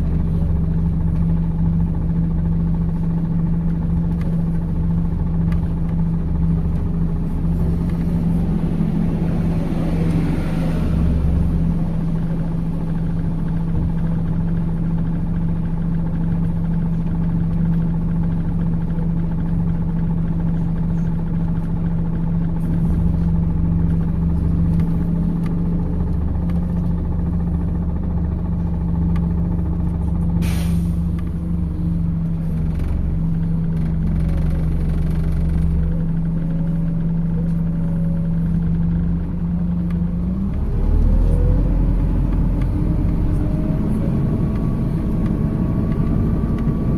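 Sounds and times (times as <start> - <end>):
bus engine running: 0.0 - 46.9.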